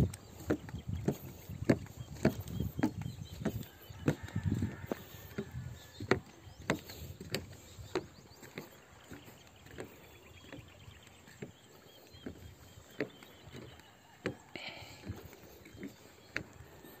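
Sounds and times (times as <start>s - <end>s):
footsteps on wooden planks: 0.0s - 17.0s.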